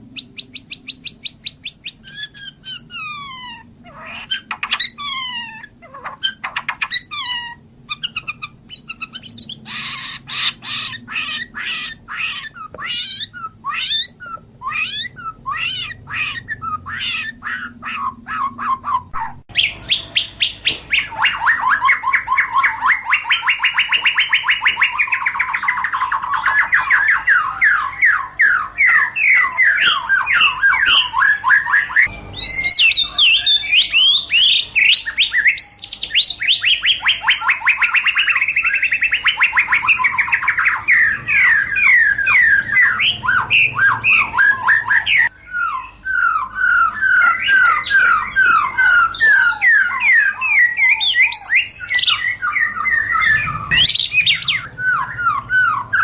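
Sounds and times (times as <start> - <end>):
bird singing rapid notes: 0.0 - 56.0.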